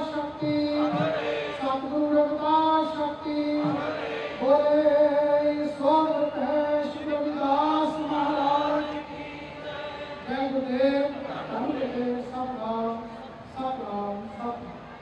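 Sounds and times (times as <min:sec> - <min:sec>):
man chanting into a microphone: 0:00.0 - 0:14.8.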